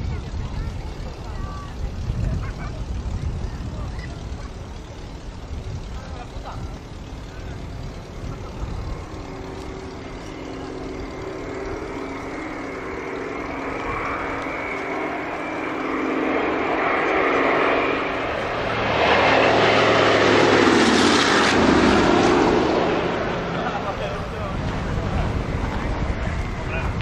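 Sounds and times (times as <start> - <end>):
propeller airplane passing: 0.0 - 27.0.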